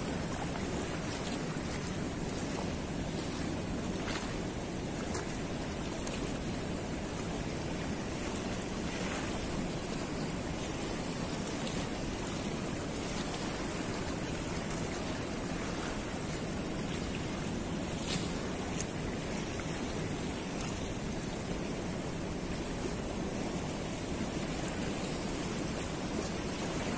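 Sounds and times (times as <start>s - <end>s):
turbulent river water rushing: 0.0s - 26.9s.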